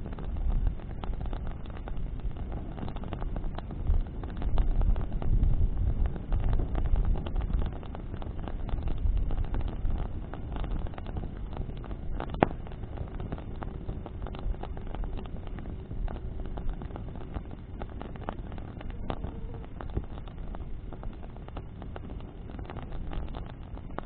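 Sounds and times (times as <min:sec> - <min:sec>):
bonfire crackling and snapping: 0:00.0 - 0:24.0
low wind rumble: 0:00.0 - 0:24.0.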